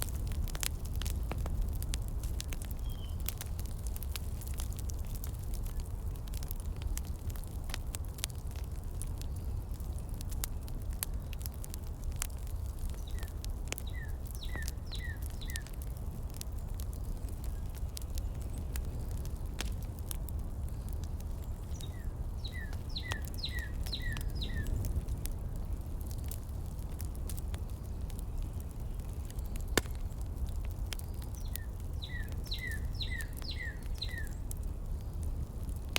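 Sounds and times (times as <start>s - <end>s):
heater crackles and clicks: 0.0s - 35.9s
heater low rumble: 0.0s - 35.9s.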